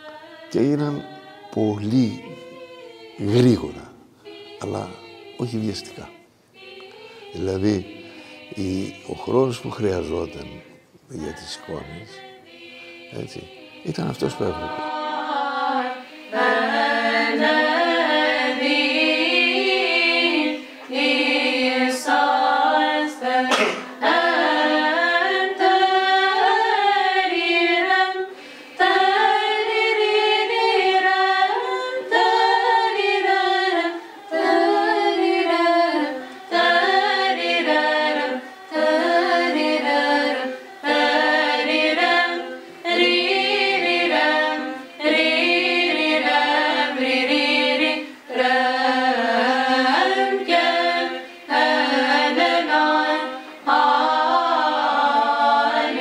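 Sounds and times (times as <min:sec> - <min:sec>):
unaccompanied choir singing: 0:00.0 - 0:56.0.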